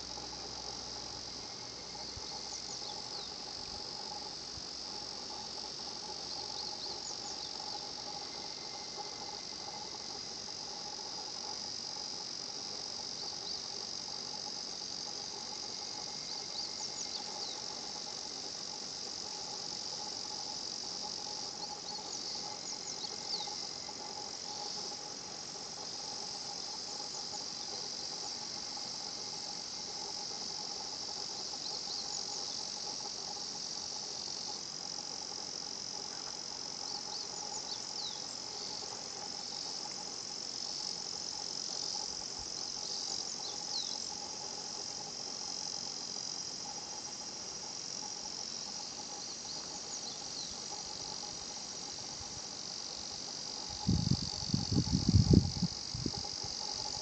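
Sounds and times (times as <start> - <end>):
cicadas calling in chorus: 0.0 - 57.0
high insect drone: 0.0 - 57.0.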